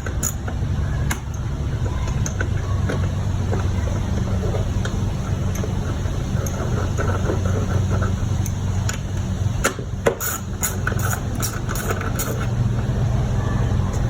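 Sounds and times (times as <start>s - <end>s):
sharp clicks and knocks: 0.0s - 12.6s
steady low hum: 0.0s - 14.0s.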